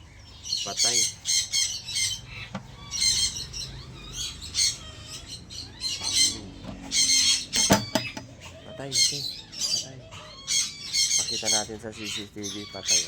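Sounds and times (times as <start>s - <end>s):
birds screeching squawks: 0.0s - 13.0s.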